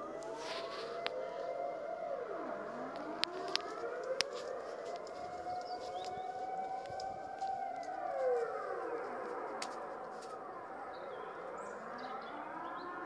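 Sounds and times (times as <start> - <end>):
air raid sirens wailing: 0.0 - 13.0.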